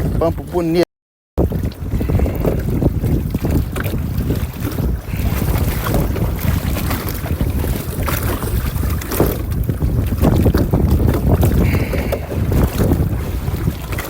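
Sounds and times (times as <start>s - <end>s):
wind buffeting microphone: 0.0s - 0.8s, 1.4s - 14.0s.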